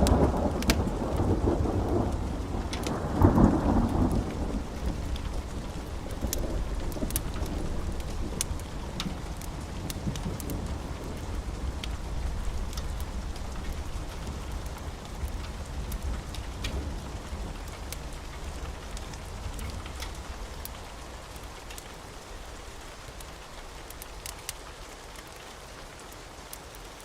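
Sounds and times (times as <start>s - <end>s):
distant thunder rumble: 0.0s - 23.8s
rain hissing: 0.0s - 27.0s.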